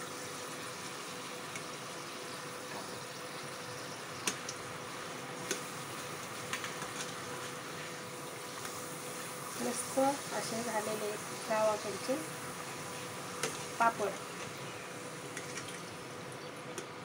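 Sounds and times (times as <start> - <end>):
frying in hot oil sizzle: 0.0 - 17.0.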